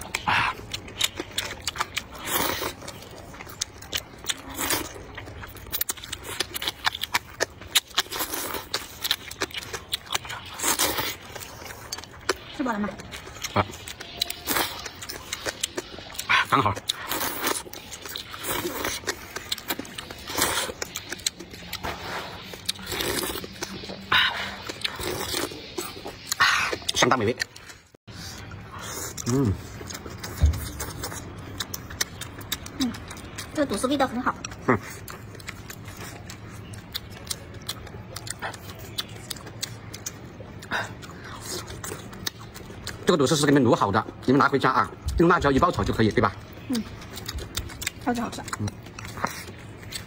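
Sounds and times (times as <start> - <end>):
chewing with wet clicks: 0.0 - 50.0.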